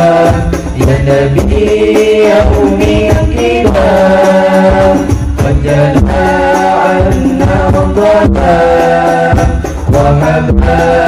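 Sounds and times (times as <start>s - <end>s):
hand-struck frame drums: 0.0s - 11.0s
men singing together: 0.0s - 11.0s.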